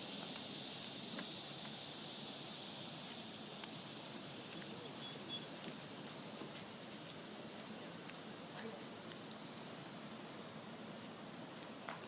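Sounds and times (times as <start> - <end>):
faint ticks and rustles: 0.0 - 12.0
high insect hiss: 0.0 - 12.0.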